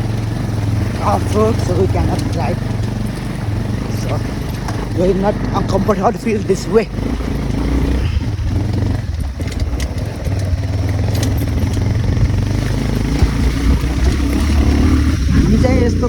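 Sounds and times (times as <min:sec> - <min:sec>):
motorcycle engine running: 0:00.0 - 0:16.0
rattles and clicks: 0:00.0 - 0:16.0.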